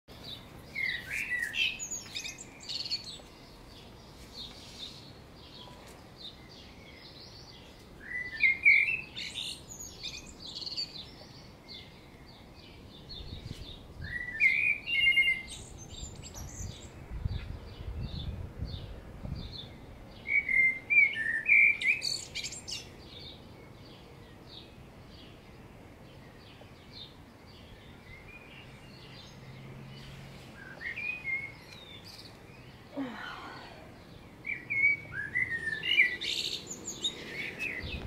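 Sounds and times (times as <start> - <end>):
small birds chirping: 0.1 - 38.0.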